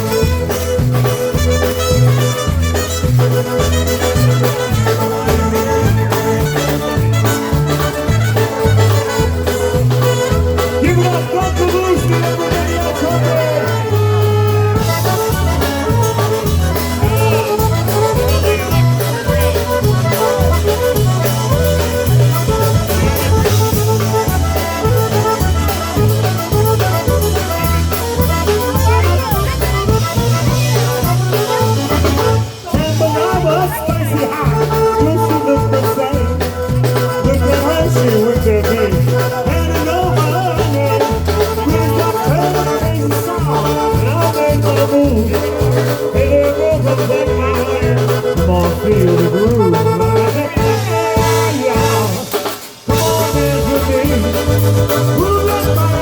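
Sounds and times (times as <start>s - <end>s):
accordion melody: 0.0s - 56.0s
oom-pah bass: 0.0s - 56.0s
polka band playing: 0.0s - 56.0s.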